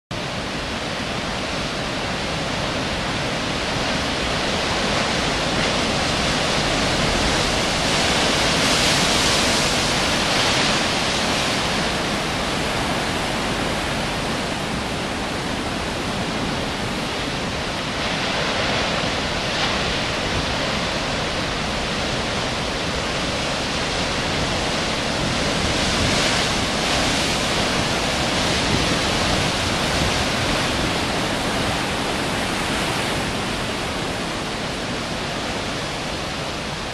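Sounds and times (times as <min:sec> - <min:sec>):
ocean surf breaking over rocks: 0:00.2 - 0:36.9.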